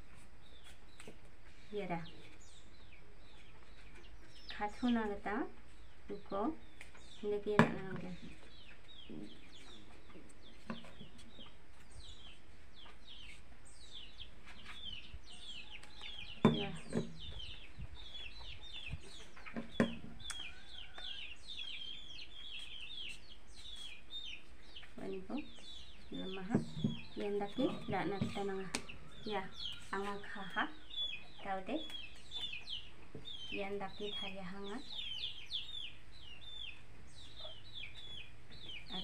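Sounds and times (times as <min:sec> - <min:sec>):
chickens chirping: 0:00.0 - 0:39.0.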